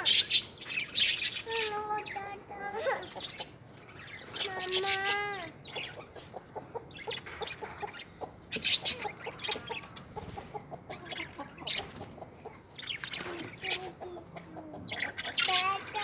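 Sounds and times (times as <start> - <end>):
birds clucking: 0.0 - 16.0
high bird squawks: 0.0 - 16.0.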